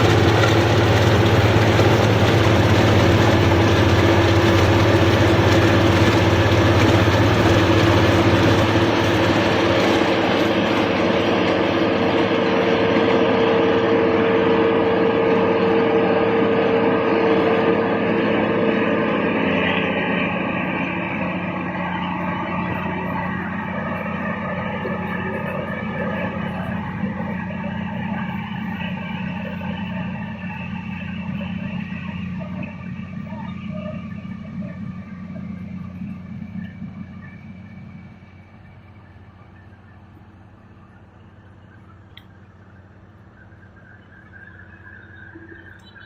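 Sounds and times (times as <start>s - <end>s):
combine harvester running: 0.0s - 46.0s.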